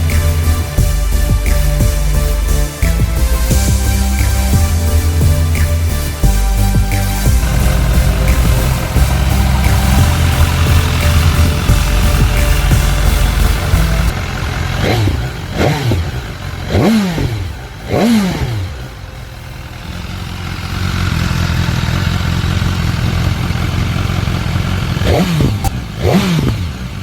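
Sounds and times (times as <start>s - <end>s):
motorcycle engine idling: 0.0s - 27.0s
motorcycle engine revving: 0.0s - 27.0s.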